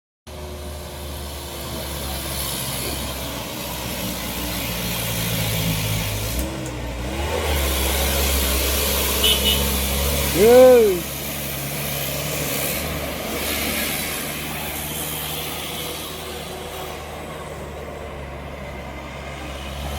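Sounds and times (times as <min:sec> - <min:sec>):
diesel truck engine under load: 0:00.3 - 0:19.9.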